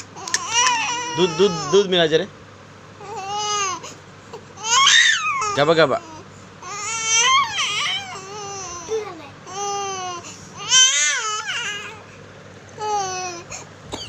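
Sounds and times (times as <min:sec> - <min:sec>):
infant crying: 0:00.2 - 0:02.0, 0:03.0 - 0:12.1, 0:12.8 - 0:13.7.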